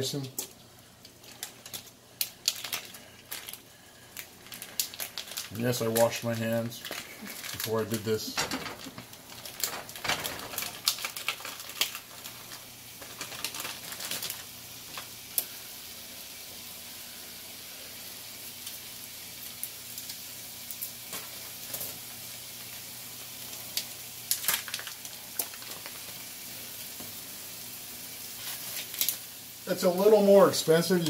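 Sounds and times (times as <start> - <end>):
plastic packaging crackling: 0.0 - 16.7, 18.5 - 31.0
meat sizzling in a frying pan: 0.0 - 31.0.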